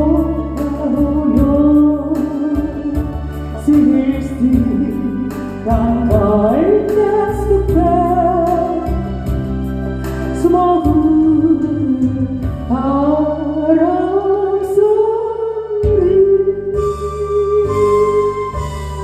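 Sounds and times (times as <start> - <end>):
band backing track: 0.0 - 14.9, 15.7 - 19.0.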